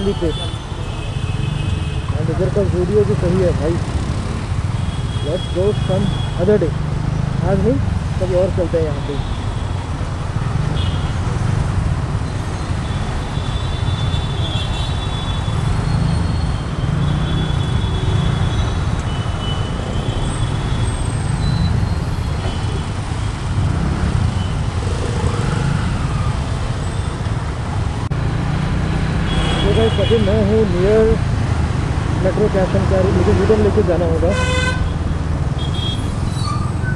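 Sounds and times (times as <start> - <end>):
road traffic: 0.0 - 36.9.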